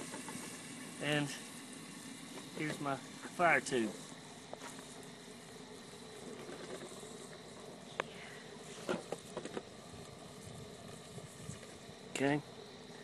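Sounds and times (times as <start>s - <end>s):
night insects chirping: 0.0s - 13.0s.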